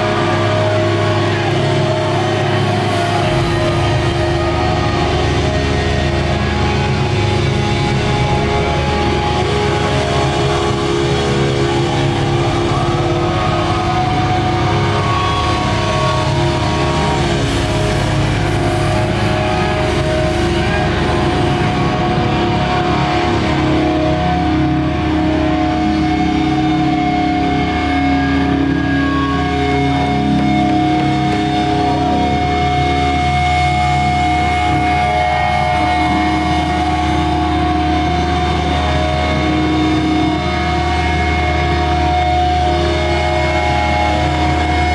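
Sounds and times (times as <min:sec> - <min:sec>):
metal band playing live: 0:00.0 - 0:44.9.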